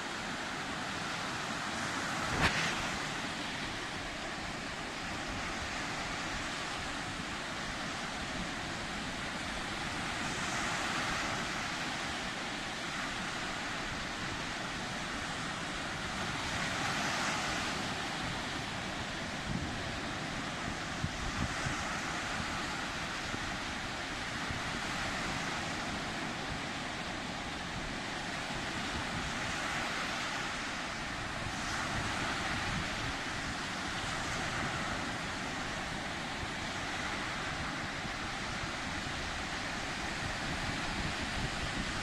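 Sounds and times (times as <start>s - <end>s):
sea surf washing: 0.0s - 42.0s.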